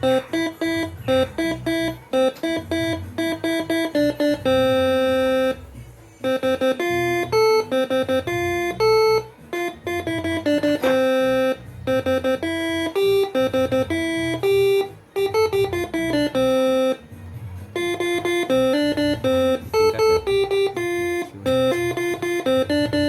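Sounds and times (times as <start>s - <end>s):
multi-tone air horn playing a tune: 0.0s - 5.6s, 6.2s - 17.0s, 17.7s - 23.0s.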